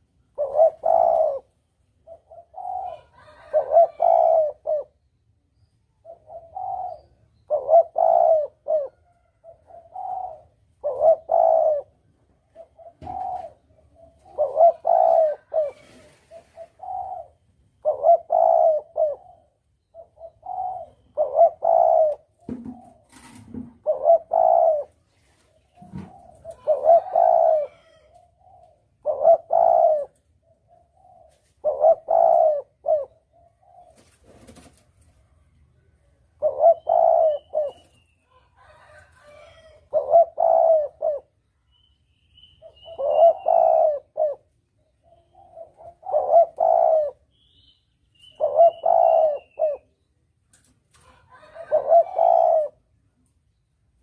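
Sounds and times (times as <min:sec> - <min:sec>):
dove cooing: 0:00.0 - 0:05.1, 0:06.0 - 0:34.8, 0:35.7 - 0:41.8, 0:42.4 - 0:50.1, 0:50.9 - 0:53.0.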